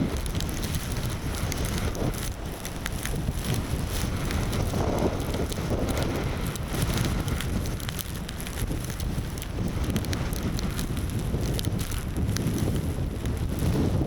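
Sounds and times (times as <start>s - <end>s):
storm wind buffeting microphone: 0.0s - 14.0s
faint ticks: 0.1s - 14.0s.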